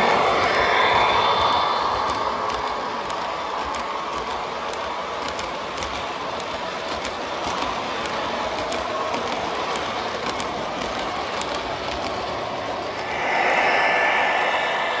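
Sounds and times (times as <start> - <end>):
wheels clicking over rail joints: 0.0 - 13.0
metal train wheels rumbling: 0.0 - 15.0.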